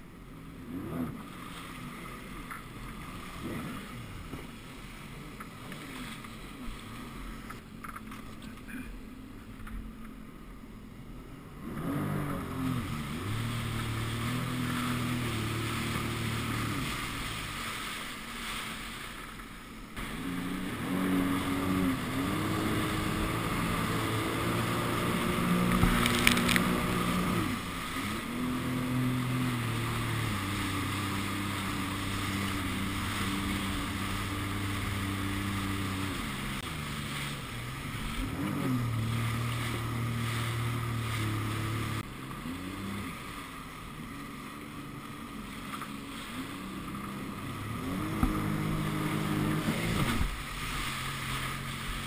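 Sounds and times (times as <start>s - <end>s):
jet ski engine revving: 0.0s - 52.0s
water and wind rushing: 0.0s - 52.0s.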